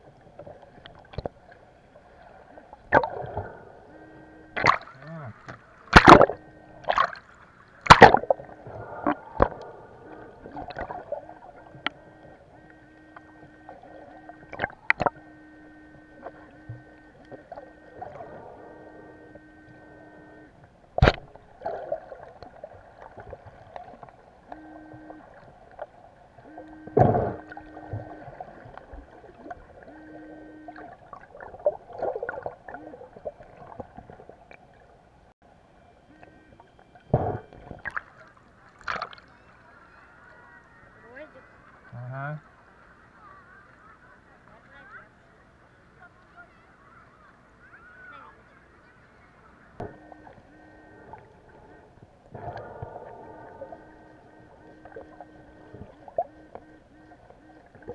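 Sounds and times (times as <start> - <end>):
water swirling: 0.0 - 35.1, 36.2 - 39.8, 49.8 - 57.9
faint steady hum: 0.0 - 57.9.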